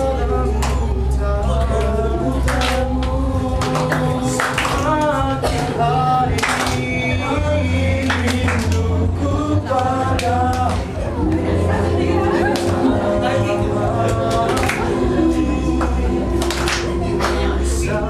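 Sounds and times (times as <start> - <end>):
low bass: 0.0 - 18.0
male vocal group singing: 0.0 - 18.0.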